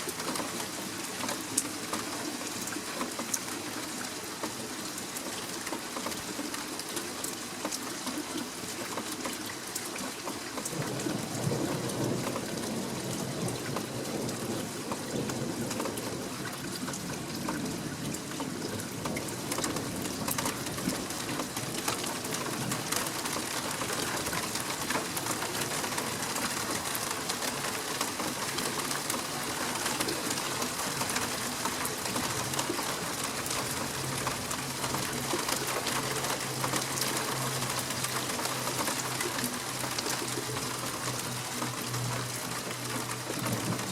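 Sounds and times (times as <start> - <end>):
rain drops ticking: 0.0 - 43.9
steady rain falling: 0.0 - 43.9.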